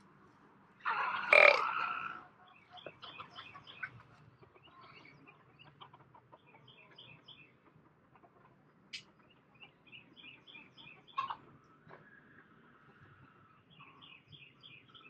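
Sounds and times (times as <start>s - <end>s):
chickens clucking and chirping: 0.8s - 15.0s.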